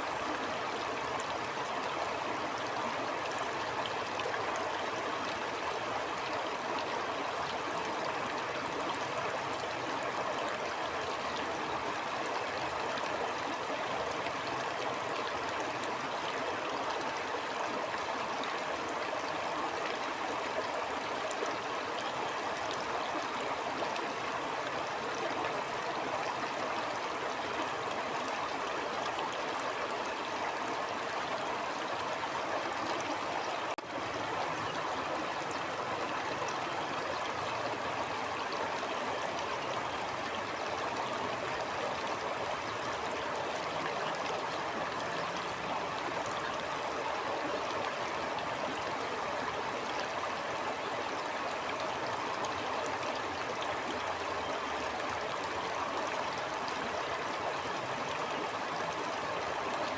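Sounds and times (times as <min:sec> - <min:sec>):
flowing stream water: 0:00.0 - 0:59.9.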